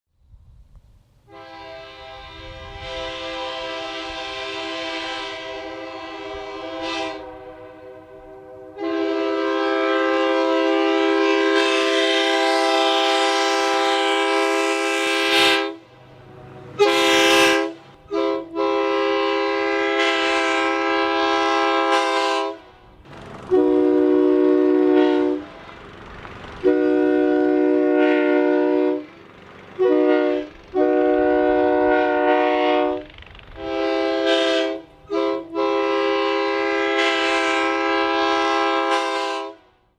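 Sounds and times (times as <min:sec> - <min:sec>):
train horn blasts: 0:01.2 - 0:25.8, 0:26.6 - 0:39.9.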